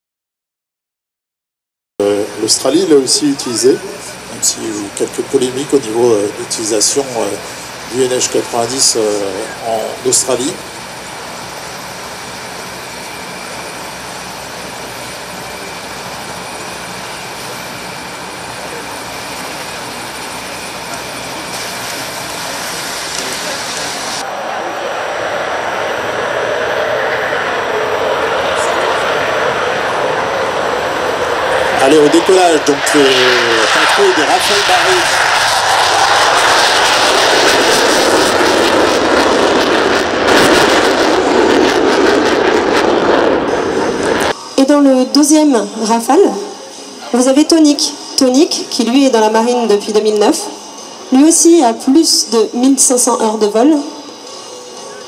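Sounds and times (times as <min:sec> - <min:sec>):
helicopter rotor and turbine: 0:02.0 - 0:55.0
jet engines roaring: 0:02.0 - 0:55.0.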